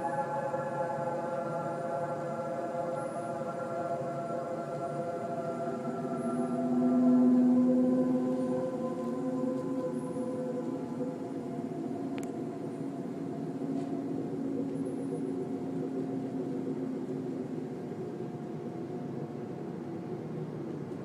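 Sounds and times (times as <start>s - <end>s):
low droning hum: 0.0s - 21.0s.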